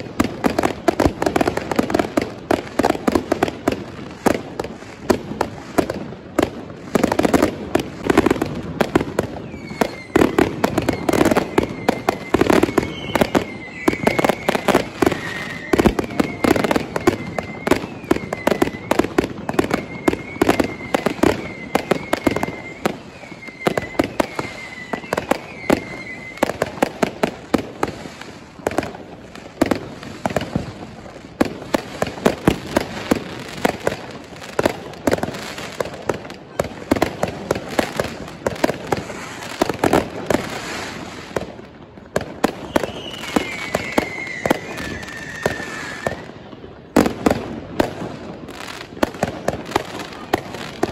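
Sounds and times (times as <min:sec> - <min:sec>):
fireworks and firecrackers banging: 0:00.0 - 0:50.9.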